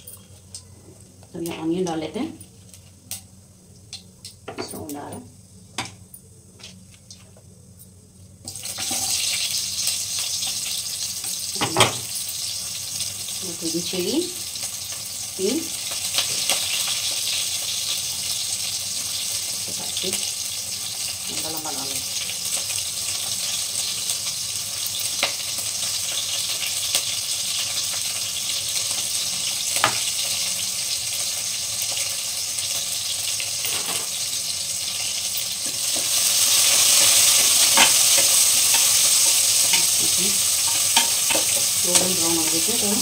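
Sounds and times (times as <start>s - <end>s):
onions sizzling in hot ghee: 0.0s - 43.0s.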